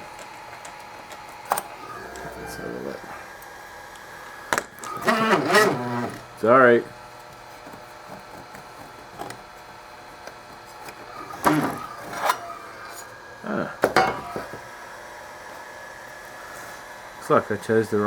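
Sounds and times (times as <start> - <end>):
cooling fan running: 0.0 - 18.0.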